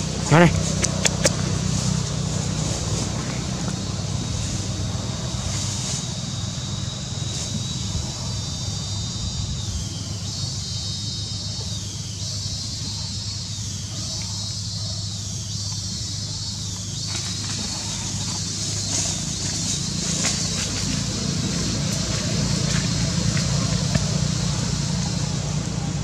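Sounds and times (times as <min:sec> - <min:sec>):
high pulsing hiss: 0:00.0 - 0:26.0
low motor rumble: 0:00.0 - 0:26.0.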